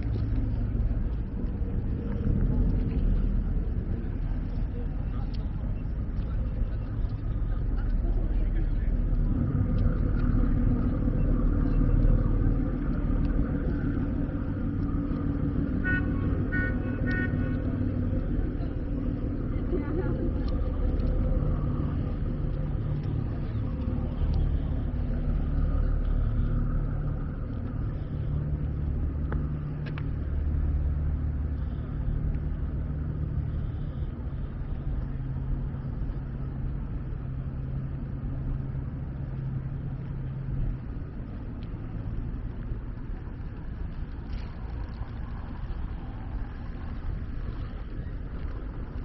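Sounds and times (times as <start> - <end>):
low hum: 0.0 - 49.0
motor vehicle engines rumbling: 0.0 - 49.0.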